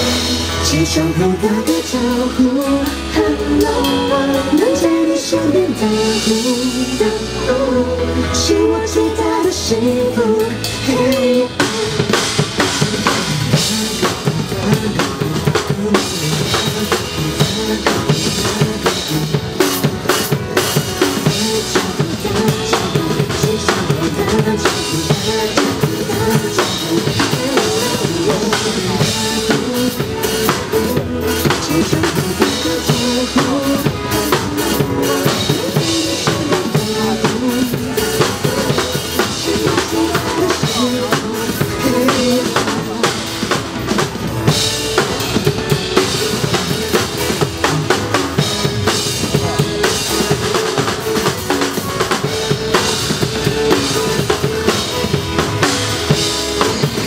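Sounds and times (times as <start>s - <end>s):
drum kit playing: 0.0s - 57.0s
pop backing track: 0.0s - 57.0s.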